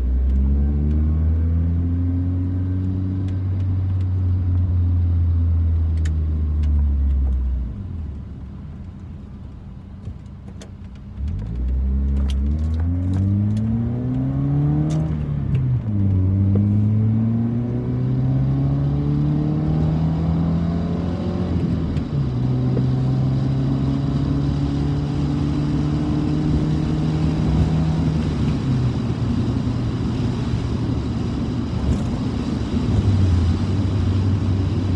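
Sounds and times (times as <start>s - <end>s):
car engine heard from inside: 0.0s - 34.9s.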